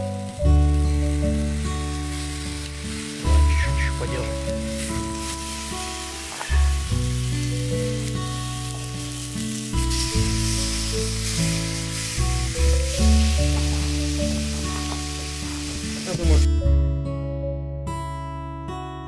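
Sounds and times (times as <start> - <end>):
meat sizzling on hot stone: 0.0 - 16.5
slow chords with strong bass: 0.0 - 19.0.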